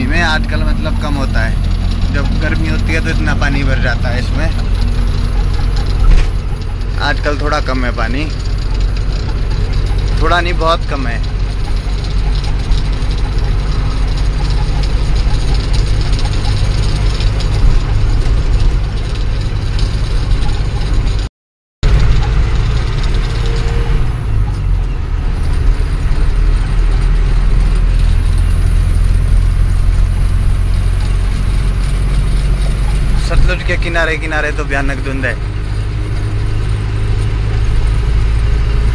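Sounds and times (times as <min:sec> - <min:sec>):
diesel engine drone: 0:00.0 - 0:38.9
road noise: 0:00.0 - 0:38.9.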